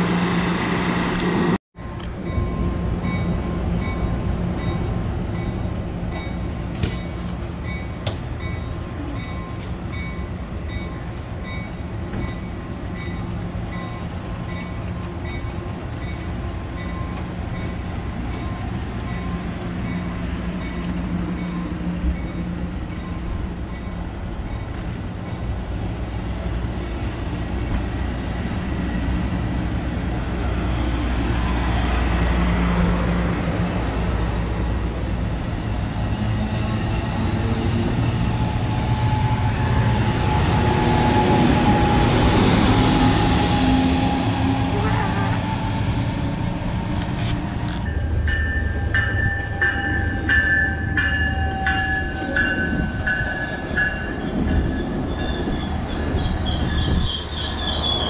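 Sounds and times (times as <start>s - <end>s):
diesel train rumbling: 0.0s - 58.0s.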